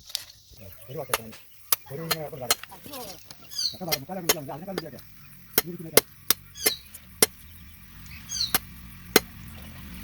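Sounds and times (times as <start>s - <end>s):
bird chirps: 0.4s - 10.0s.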